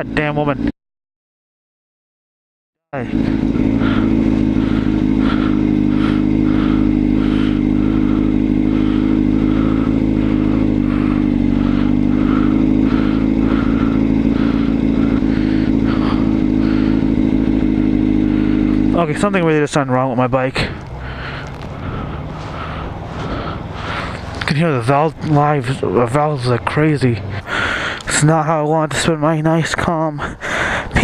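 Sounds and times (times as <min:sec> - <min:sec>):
motorcycle engine running: 0:00.0 - 0:00.7, 0:03.0 - 0:31.0.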